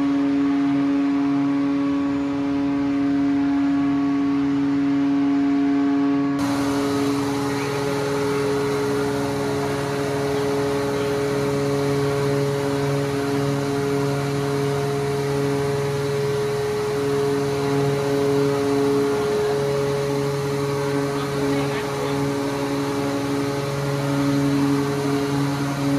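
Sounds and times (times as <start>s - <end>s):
hydraulic pump mechanical hum: 0.0s - 25.9s.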